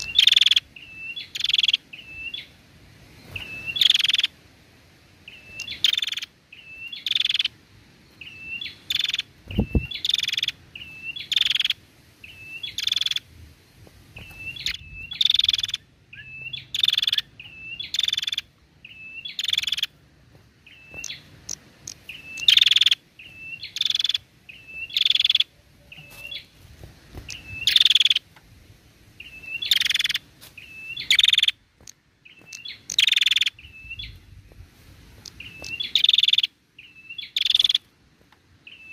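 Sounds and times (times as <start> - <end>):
bird calling harsh notes: 0.0 - 2.5, 3.3 - 4.4, 5.3 - 7.6, 8.2 - 13.3, 14.2 - 20.0, 20.7 - 26.6, 27.2 - 28.3, 29.2 - 34.2, 35.2 - 37.9.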